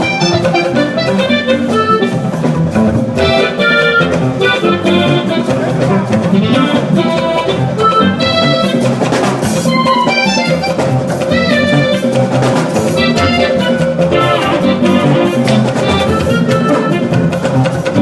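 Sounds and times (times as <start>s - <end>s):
bright melody notes: 0.0s - 18.0s
drums steady beat: 0.0s - 18.0s.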